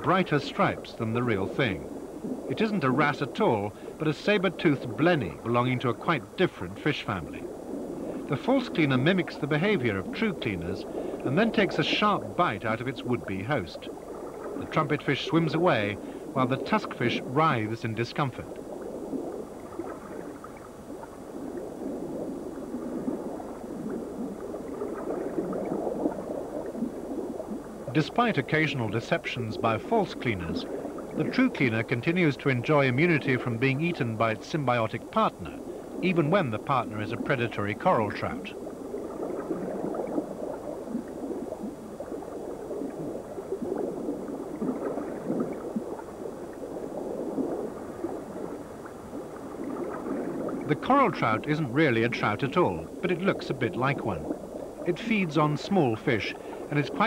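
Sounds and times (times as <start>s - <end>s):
underwater bubbling and gurgling: 0.0s - 57.0s.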